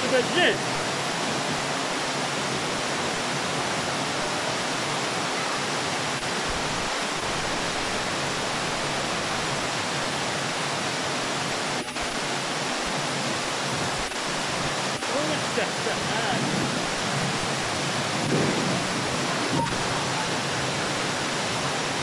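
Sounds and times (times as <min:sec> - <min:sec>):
floodwater rushing down stone steps: 0:00.0 - 0:22.0.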